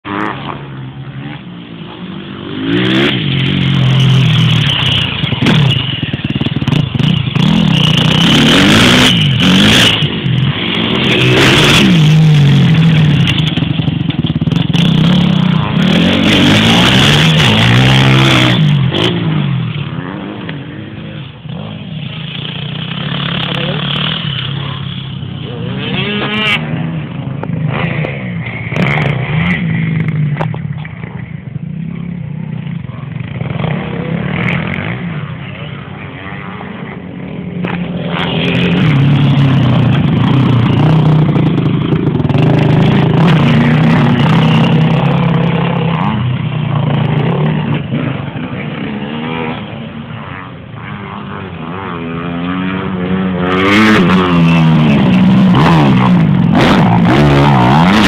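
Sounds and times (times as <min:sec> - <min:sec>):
motorbike engine revving: 0:00.1 - 0:31.0, 0:33.3 - 0:58.0.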